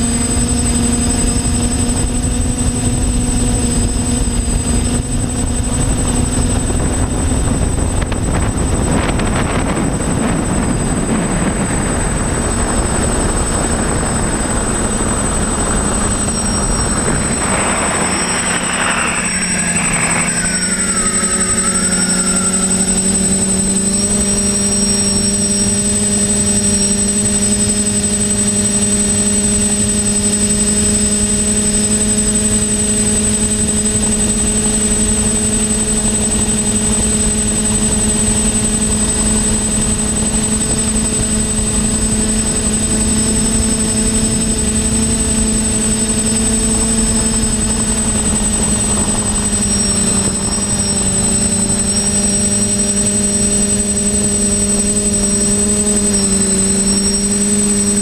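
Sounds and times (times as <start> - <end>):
drone motors and propellers: 0.0 - 58.0
thin high motor whine: 0.0 - 58.0.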